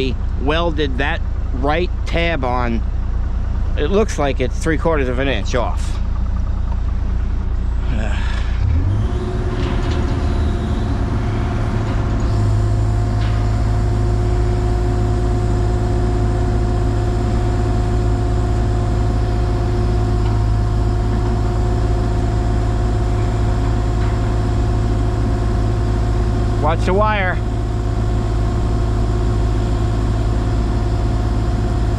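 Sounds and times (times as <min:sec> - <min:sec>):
excavator engine droning: 0:00.0 - 0:31.9.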